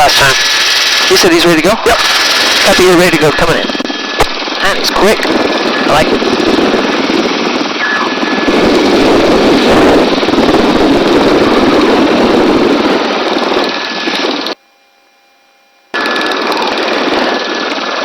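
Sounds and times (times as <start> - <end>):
helicopter drone: 0.0 - 14.6, 15.9 - 18.0.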